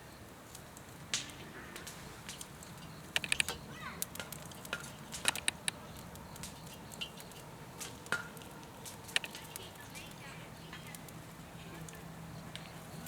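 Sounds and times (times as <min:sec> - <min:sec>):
campfire crackling and popping: 0:00.0 - 0:13.0
low hiss of fire: 0:00.0 - 0:13.0.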